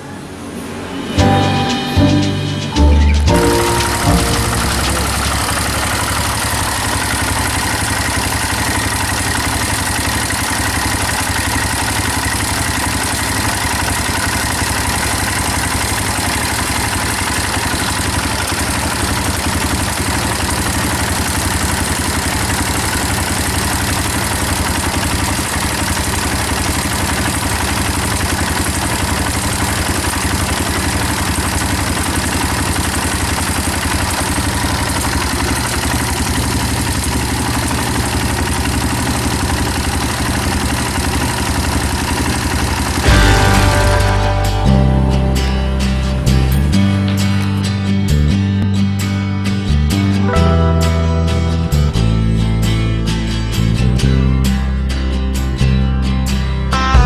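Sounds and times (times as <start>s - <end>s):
motorbike engine idling: 2.8s - 52.8s.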